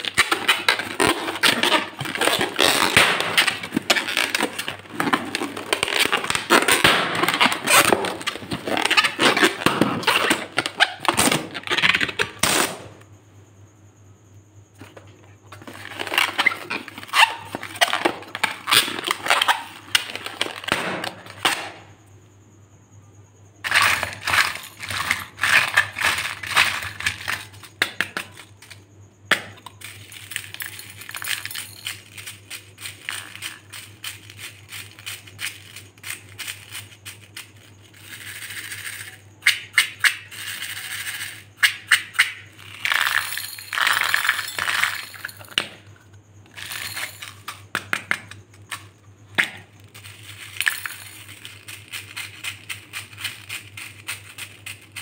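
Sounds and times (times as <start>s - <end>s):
beads rattling in a cup: 0.0s - 10.8s, 14.8s - 21.3s, 23.6s - 28.8s, 29.6s - 45.6s, 46.5s - 47.7s, 49.6s - 55.0s.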